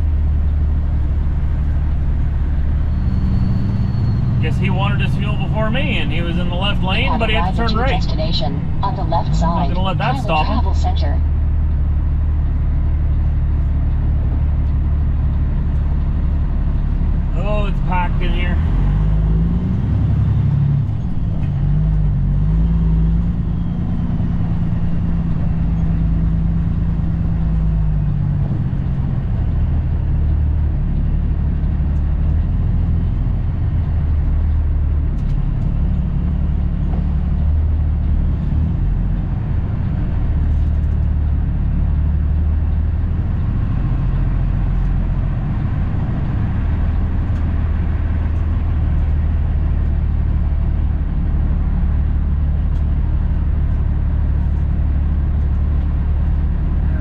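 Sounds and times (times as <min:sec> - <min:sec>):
diesel truck engine from cab: 0:00.0 - 0:57.0.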